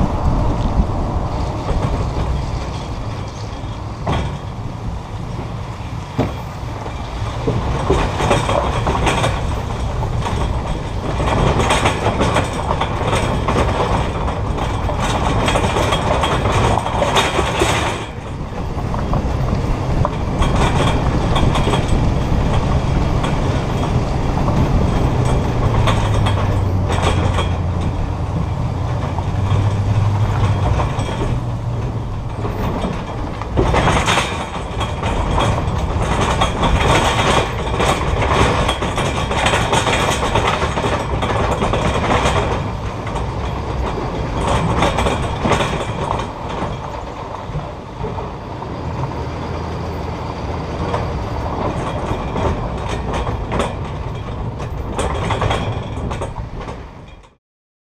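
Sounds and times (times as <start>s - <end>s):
road rumble: 0.0s - 57.4s
rattling metal clatter: 0.8s - 5.4s, 6.1s - 48.2s, 50.7s - 57.4s.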